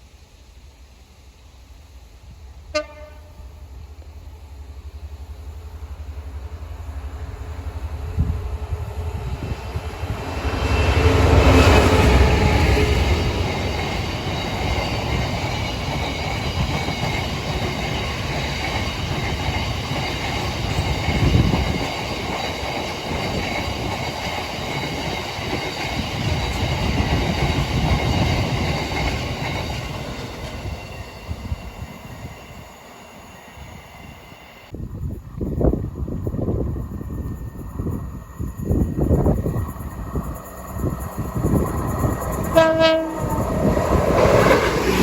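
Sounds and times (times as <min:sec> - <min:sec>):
train running over rails: 0:00.0 - 0:45.0.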